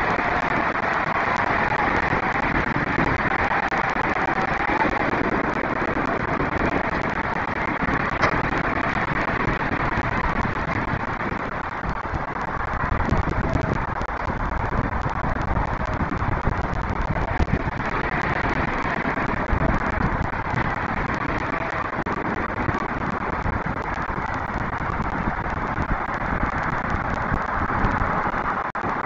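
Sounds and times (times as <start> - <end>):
distant road traffic hum: 0.0 - 29.0
faint crackles: 0.0 - 29.0.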